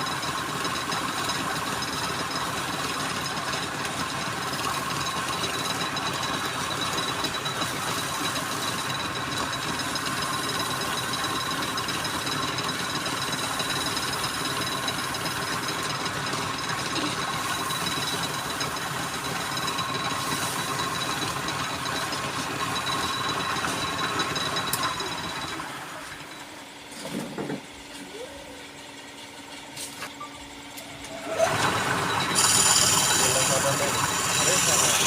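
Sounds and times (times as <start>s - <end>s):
wood lathe running: 0.0s - 26.4s, 30.8s - 35.0s.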